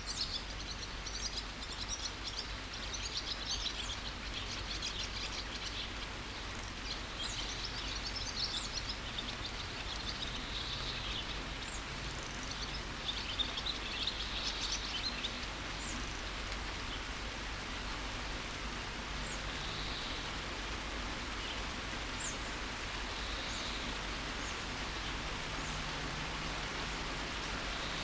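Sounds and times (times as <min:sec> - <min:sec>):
birds chirping: 0:00.0 - 0:28.0
steady rain: 0:00.0 - 0:28.0.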